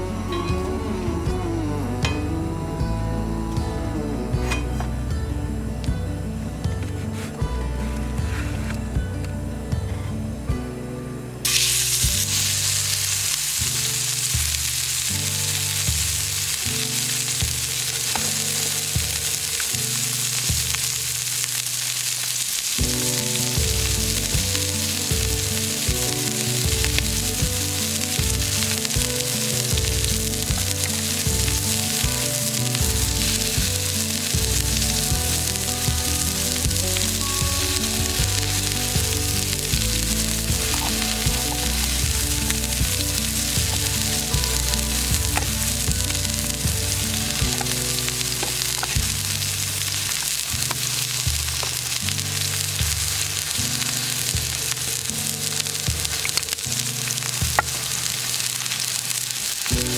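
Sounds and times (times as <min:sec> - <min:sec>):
background music: 0:00.0 - 0:59.9
steak sizzling: 0:11.1 - 0:59.9.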